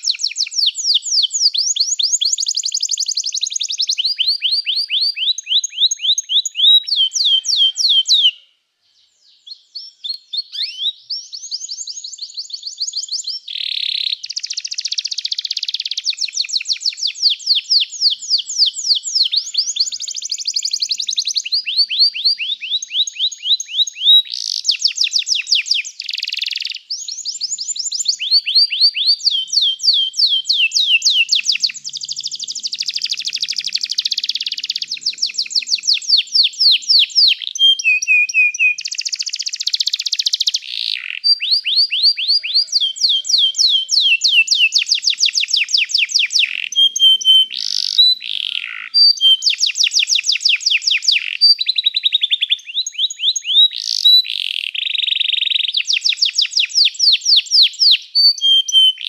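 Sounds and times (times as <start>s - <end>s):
canary singing high trills: 0.0s - 8.5s, 9.2s - 59.0s.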